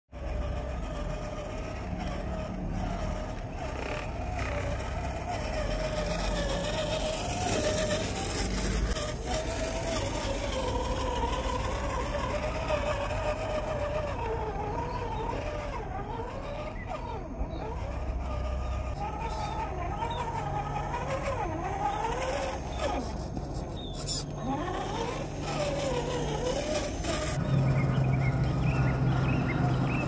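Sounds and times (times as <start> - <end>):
toy car electric motor whining: 0.1 - 30.0.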